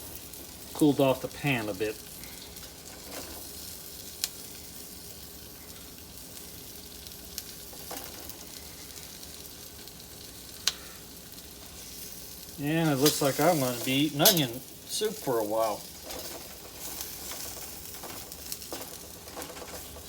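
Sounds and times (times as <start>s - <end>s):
onions sizzling in a pan: 0.0s - 20.0s.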